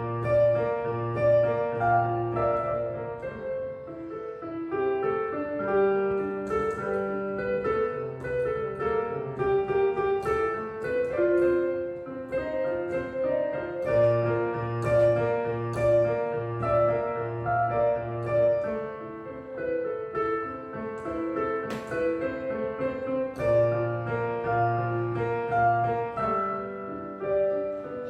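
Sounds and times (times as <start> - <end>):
piano melody: 0.0 - 28.0.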